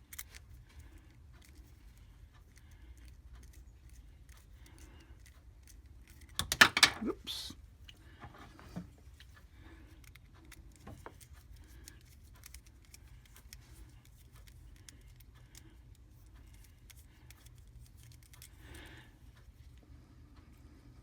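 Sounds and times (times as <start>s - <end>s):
small parts clicking and rattling: 0.0s - 7.3s, 9.2s - 19.8s.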